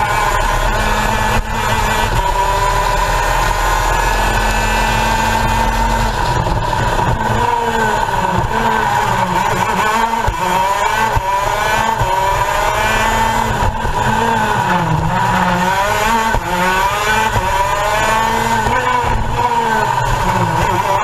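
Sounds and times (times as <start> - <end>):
kart engine revving: 0.0 - 21.0
other kart engines running: 0.0 - 21.0.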